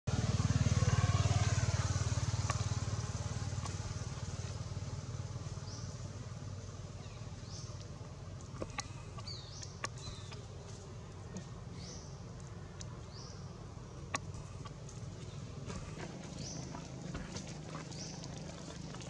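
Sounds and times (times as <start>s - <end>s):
vehicle engine moving away: 0.0s - 19.0s.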